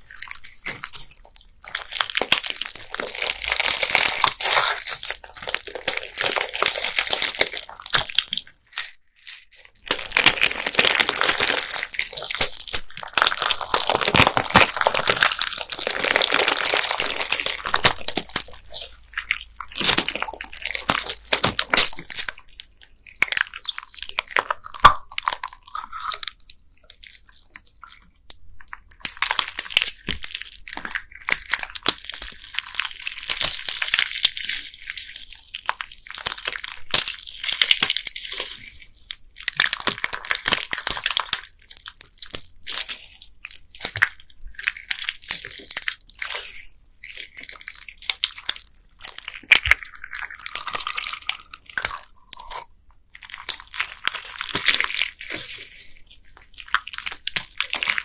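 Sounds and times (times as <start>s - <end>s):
crunchy slime crackling: 0.0s - 8.7s, 9.8s - 58.0s.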